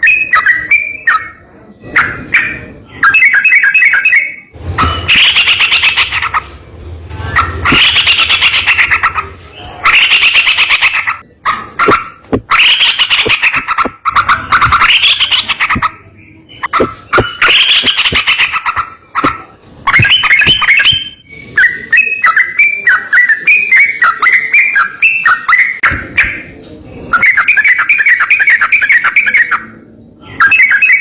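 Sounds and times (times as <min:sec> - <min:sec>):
bird singing harsh rattling phrases: 0:00.0 - 0:31.0.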